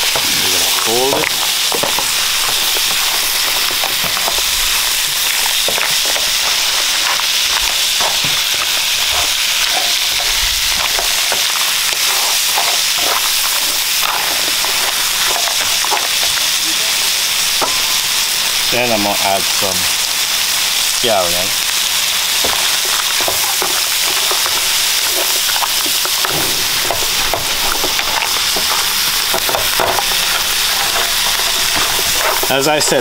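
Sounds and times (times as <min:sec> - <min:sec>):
spatula scraping and tapping pan: 0:00.0 - 0:16.5, 0:22.3 - 0:33.0
food sizzling in a pan: 0:00.0 - 0:33.0.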